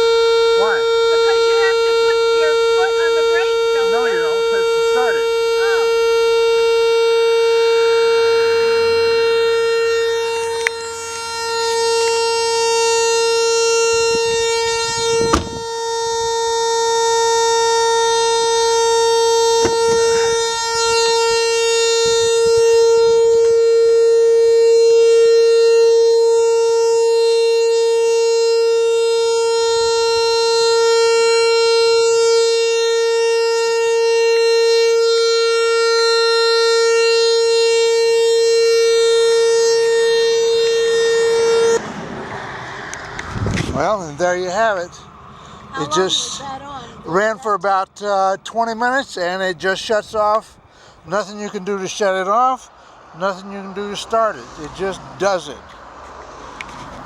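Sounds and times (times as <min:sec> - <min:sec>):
loud steady tone with overtones: 0:00.0 - 0:56.6.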